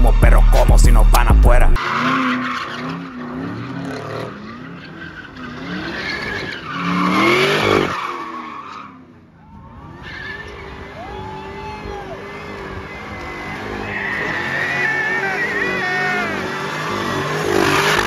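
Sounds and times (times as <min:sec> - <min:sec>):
car engine revving: 0:00.0 - 0:18.0
tyres squealing: 0:01.8 - 0:18.0.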